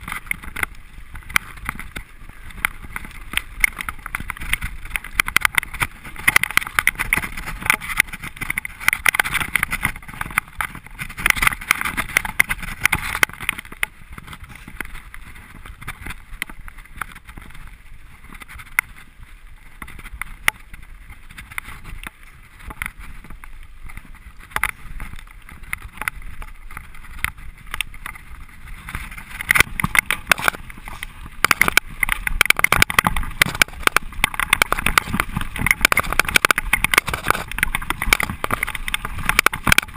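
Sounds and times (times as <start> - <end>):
bike rattling and clattering: 0.0 - 39.9
tyres over stones and dirt: 0.0 - 39.9.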